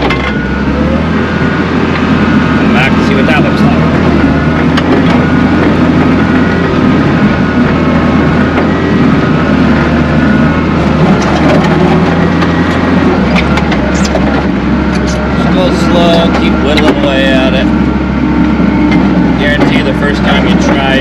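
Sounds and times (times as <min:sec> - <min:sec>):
skid steer engine running: 0:00.0 - 0:21.0.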